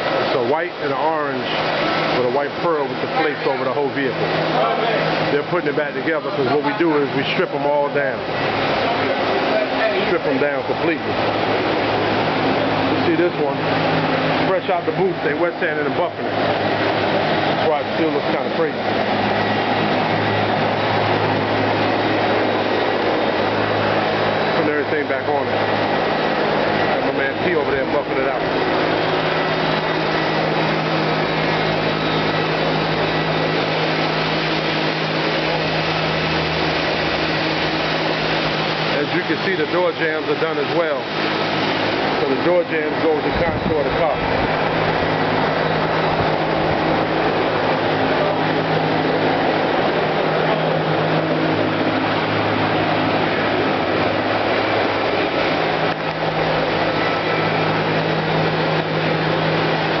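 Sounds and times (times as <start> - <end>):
mechanical running noise: 0.0 - 60.0
low hum: 7.1 - 60.0.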